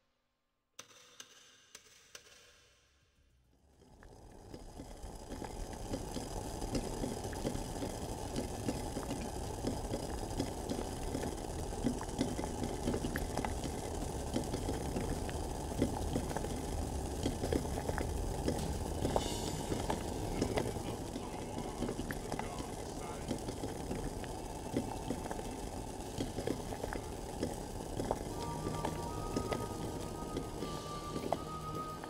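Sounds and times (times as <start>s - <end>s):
water boiling in a saucepan: 3.5s - 32.0s.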